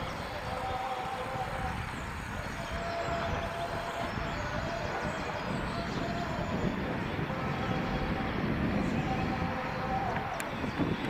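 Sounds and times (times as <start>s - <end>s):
distant traffic rumble: 0.0s - 11.0s
faint voices: 0.0s - 11.0s.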